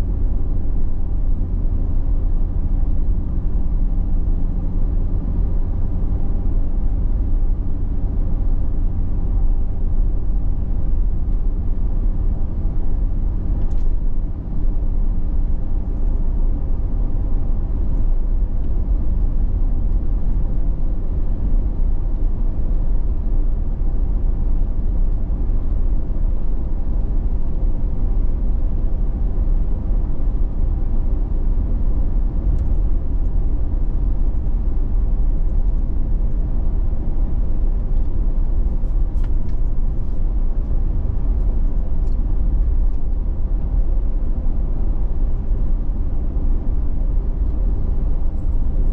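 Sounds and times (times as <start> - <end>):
vehicle cruising interior rumble: 0.0 - 48.9.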